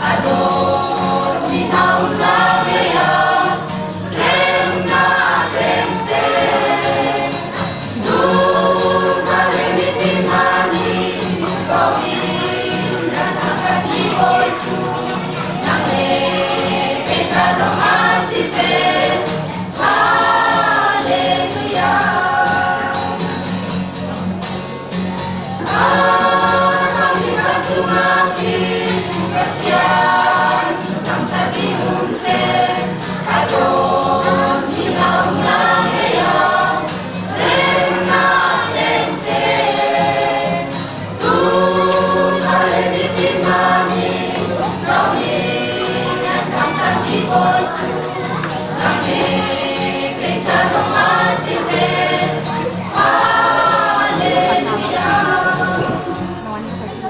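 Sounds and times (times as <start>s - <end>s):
choir singing a carol: 0.0s - 24.2s, 24.9s - 56.7s
instrumental accompaniment: 0.0s - 57.0s.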